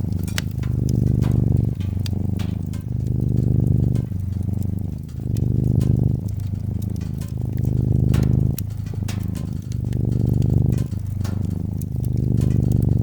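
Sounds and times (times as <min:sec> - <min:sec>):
cat purring: 0:00.0 - 0:13.0
wood fire crackling: 0:00.0 - 0:13.0.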